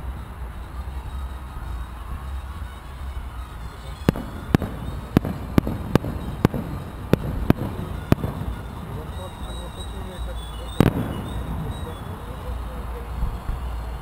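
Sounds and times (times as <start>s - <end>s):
distant fireworks bursting: 0.0s - 14.0s.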